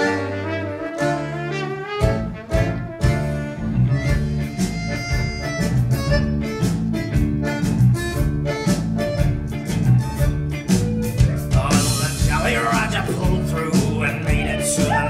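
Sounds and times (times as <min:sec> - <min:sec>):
pitched melody: 0:00.0 - 0:15.0
steady drum beat: 0:02.0 - 0:15.0.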